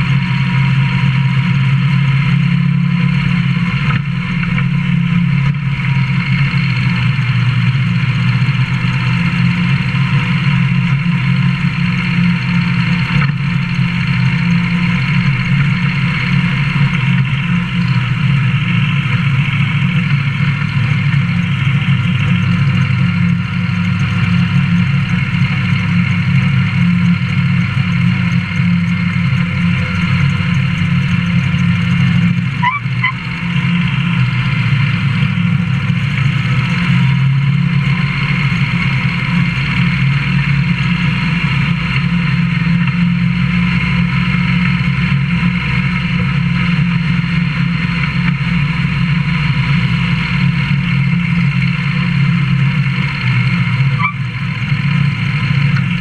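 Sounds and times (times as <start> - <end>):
truck engine running loud: 0.0 - 56.0.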